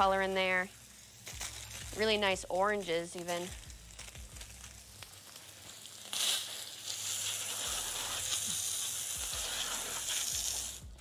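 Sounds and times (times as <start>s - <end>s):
garden hose spraying water: 0.0s - 11.0s.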